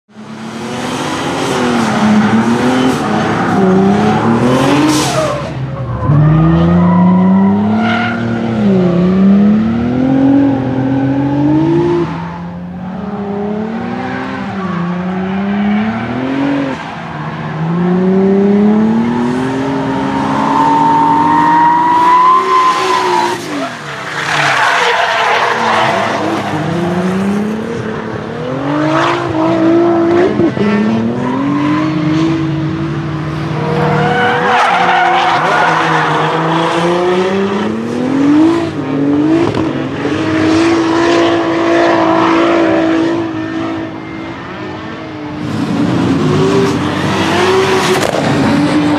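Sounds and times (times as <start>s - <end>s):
car engine revving: 0.3s - 48.9s.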